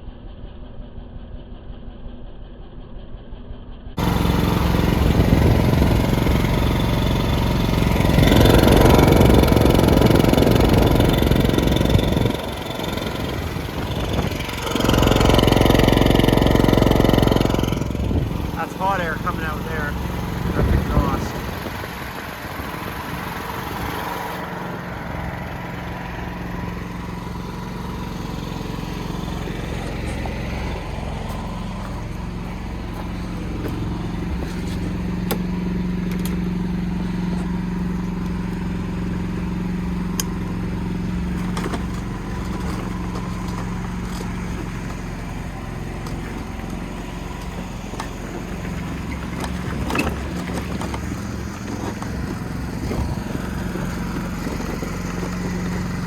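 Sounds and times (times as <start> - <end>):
small petrol engine running: 0.1 - 56.0.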